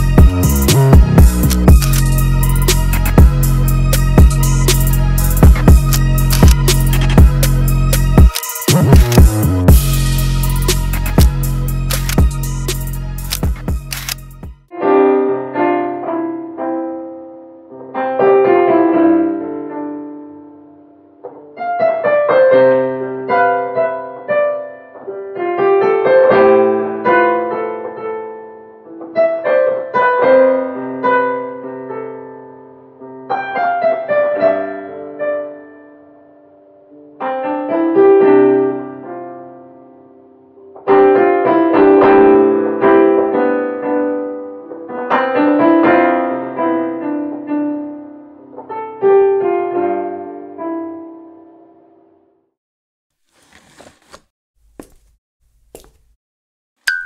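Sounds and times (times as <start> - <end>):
digital piano chords and melody: 0.0 - 52.3.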